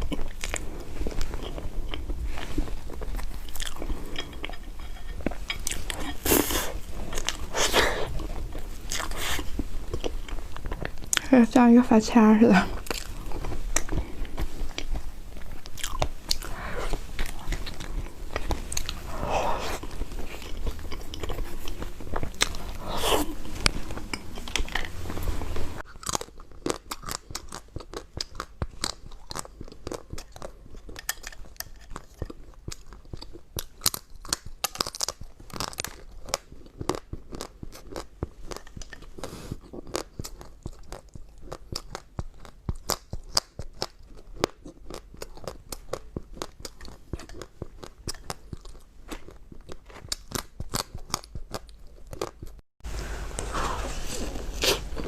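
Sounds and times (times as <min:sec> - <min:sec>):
crunchy food being chewed: 0:00.0 - 0:11.3, 0:12.6 - 0:55.0.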